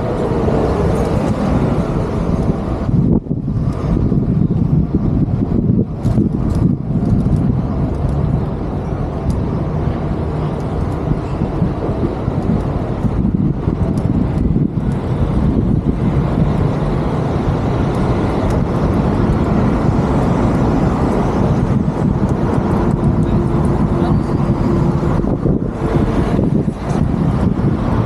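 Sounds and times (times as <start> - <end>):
low rumble of road traffic: 0.0 - 28.0
wind buffeting microphone: 0.0 - 28.0.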